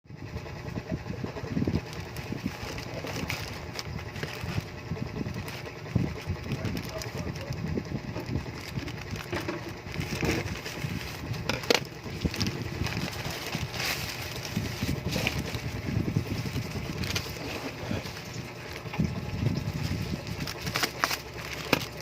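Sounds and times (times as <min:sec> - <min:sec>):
low rumble: 0:00.1 - 0:21.8
packaging crinkling: 0:01.6 - 0:22.0.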